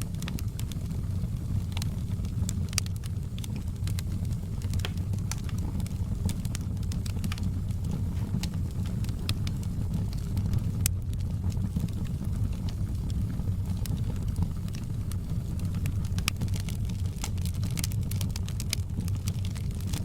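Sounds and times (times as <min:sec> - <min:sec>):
fire crackling and popping: 0:00.0 - 0:20.0
fire roaring: 0:00.0 - 0:20.0.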